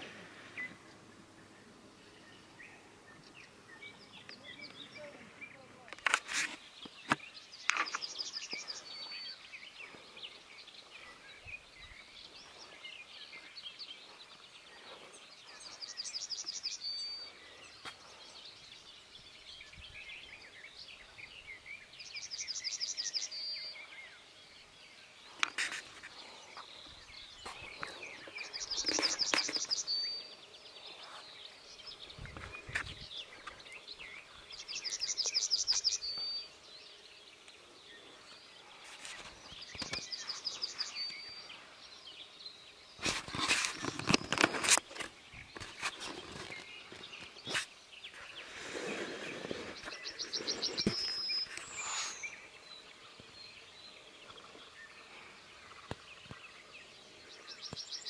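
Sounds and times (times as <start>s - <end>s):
other birds chirping: 0.0s - 58.0s
songbird trilling song: 0.0s - 58.0s.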